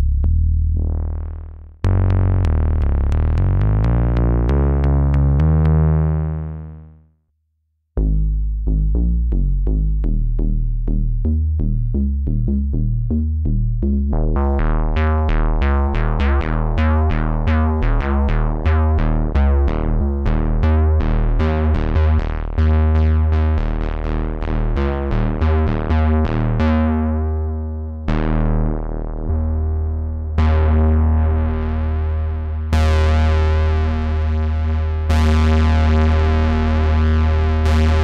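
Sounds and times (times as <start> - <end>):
synthesizer bass notes: 0.0 - 7.0, 8.0 - 38.0.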